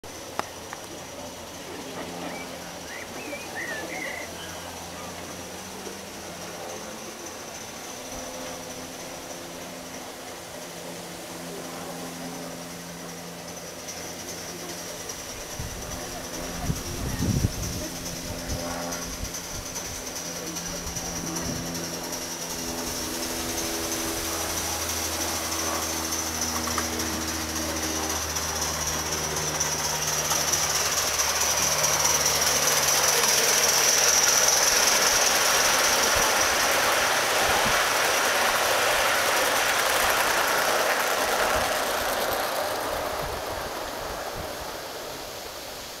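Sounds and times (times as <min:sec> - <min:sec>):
model locomotive clatter: 0:00.0 - 0:46.0.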